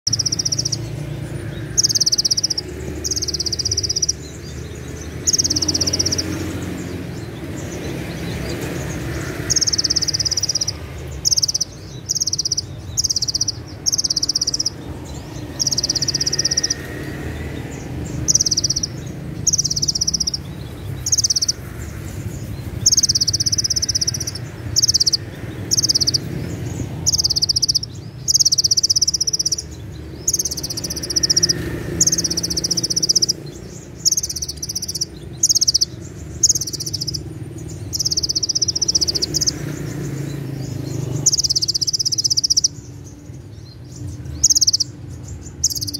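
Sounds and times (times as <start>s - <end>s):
sunbird singing high trills: 0.0s - 45.9s.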